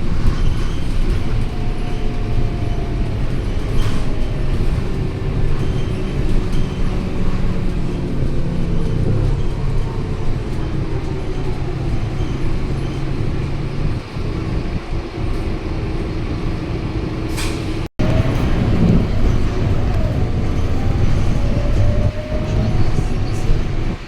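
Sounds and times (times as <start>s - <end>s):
bus engine and road noise: 0.0s - 24.0s.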